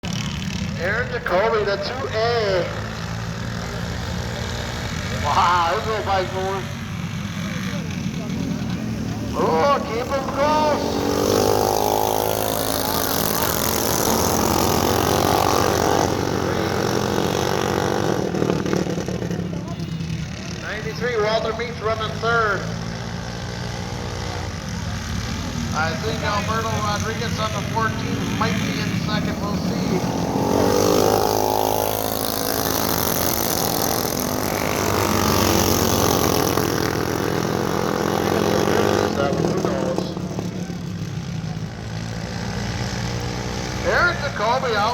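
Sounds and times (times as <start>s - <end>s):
minibike engines droning: 0.0s - 44.9s.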